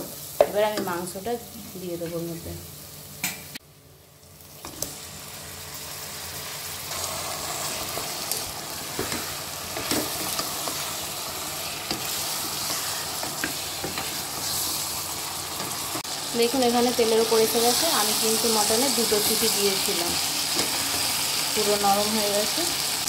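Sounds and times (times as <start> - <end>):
meat sizzling in hot oil: 4.2 - 23.0.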